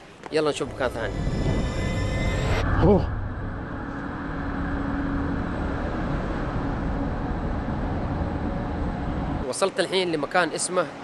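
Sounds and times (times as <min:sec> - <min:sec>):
rumble of road traffic: 0:00.0 - 0:11.0.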